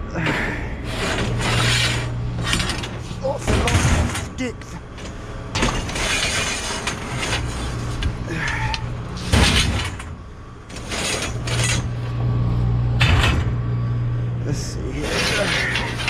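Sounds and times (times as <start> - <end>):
steady low hum: 0.0 - 16.0
metal rods clanking and scraping: 0.2 - 12.2, 14.9 - 16.0.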